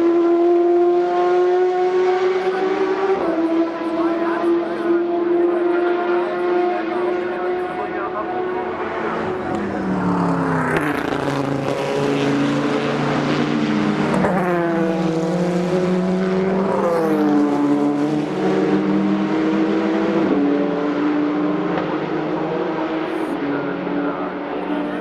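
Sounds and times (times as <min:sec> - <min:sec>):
race cars passing: 0:00.0 - 0:25.0.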